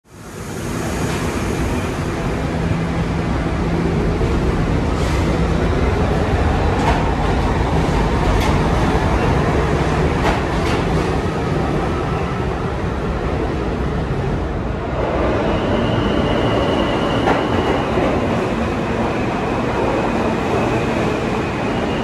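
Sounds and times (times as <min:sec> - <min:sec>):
subway train rumbling: 0:00.0 - 0:22.0
train whine: 0:00.1 - 0:22.0.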